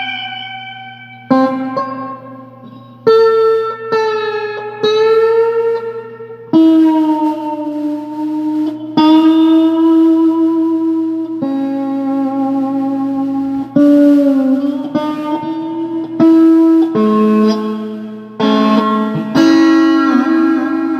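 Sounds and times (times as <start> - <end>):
slow guitar notes with reverb: 0.0 - 20.9.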